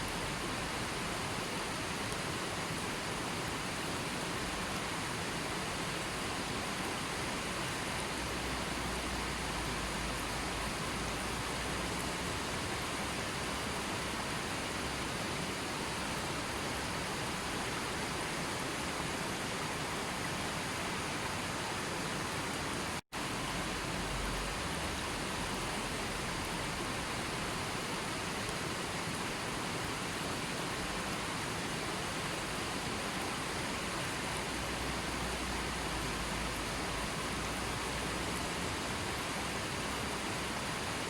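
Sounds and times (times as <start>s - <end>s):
falling water rushing: 0.0s - 41.0s.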